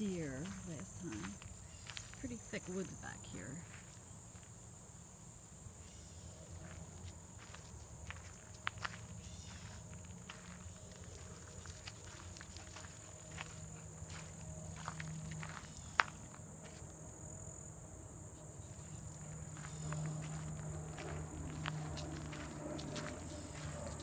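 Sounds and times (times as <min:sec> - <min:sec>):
footsteps on gravel: 0:00.0 - 0:04.6, 0:06.0 - 0:16.9, 0:18.7 - 0:24.0
insect chorus trilling: 0:00.0 - 0:24.0.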